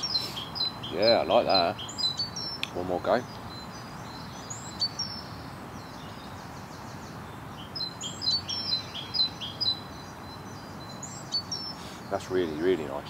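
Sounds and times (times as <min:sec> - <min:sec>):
background hiss: 0:00.0 - 0:13.0
songbird chirping: 0:00.0 - 0:13.0.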